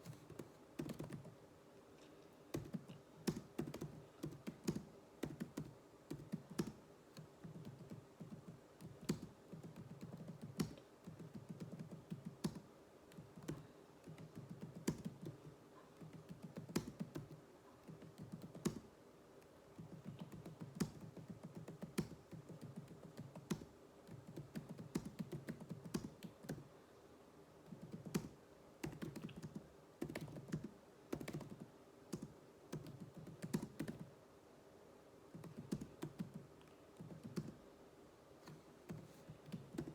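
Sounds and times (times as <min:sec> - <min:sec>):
typing on computer keyboard: 0:00.0 - 0:01.4, 0:02.5 - 0:18.9, 0:19.8 - 0:26.6, 0:27.7 - 0:34.1, 0:35.4 - 0:37.6, 0:38.9 - 0:39.9.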